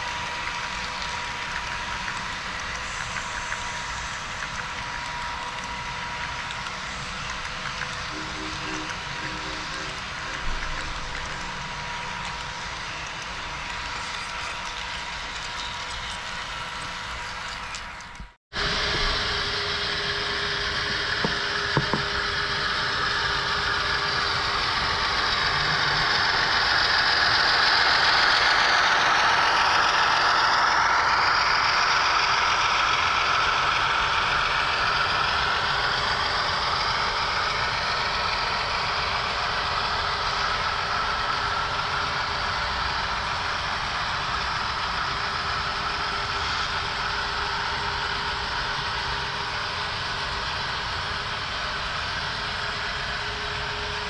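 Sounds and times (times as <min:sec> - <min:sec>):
diesel locomotive engine sound: 0:00.0 - 0:54.0
model train wheels rumbling: 0:00.0 - 0:54.0.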